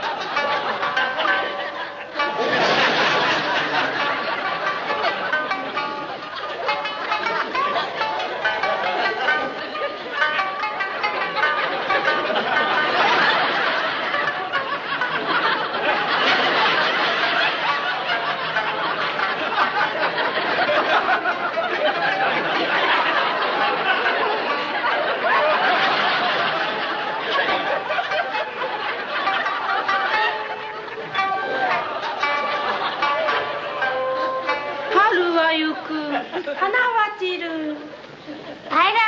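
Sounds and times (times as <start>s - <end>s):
audience laughter: 0.0s - 36.9s, 37.9s - 38.7s.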